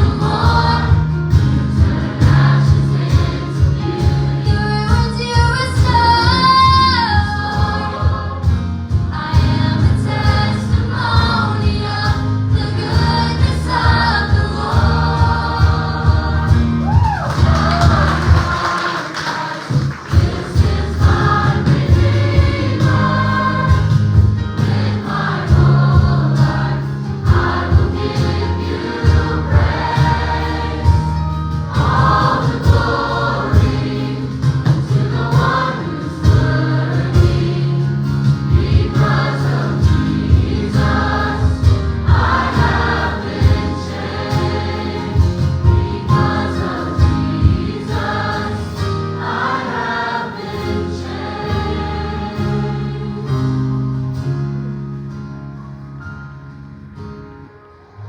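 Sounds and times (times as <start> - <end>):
band playing: 0.0 - 53.6
choir singing: 0.0 - 54.0.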